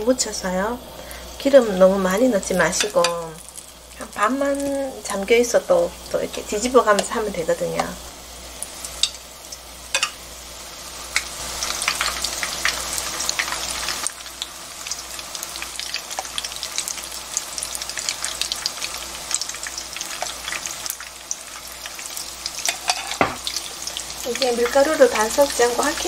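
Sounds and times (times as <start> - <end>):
batter deep-frying in oil: 0.0 - 26.0.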